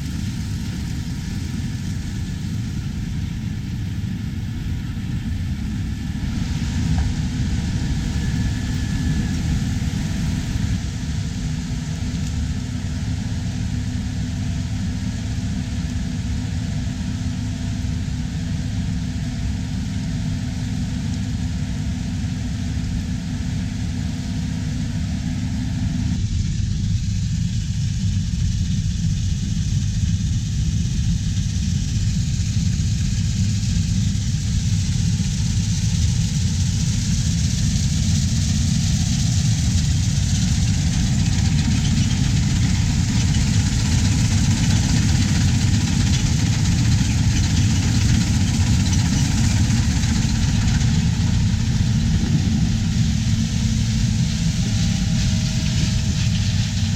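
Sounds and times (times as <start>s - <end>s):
farm machinery engine rumbling: 0.0s - 56.9s.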